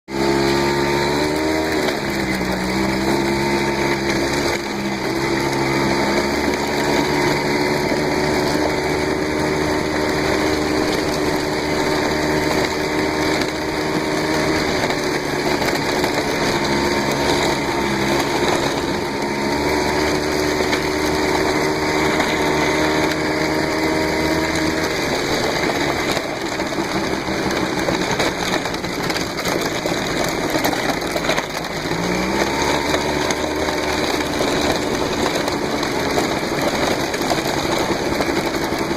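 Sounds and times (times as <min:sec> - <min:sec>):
small motorcycle engine running: 0:00.0 - 0:38.9.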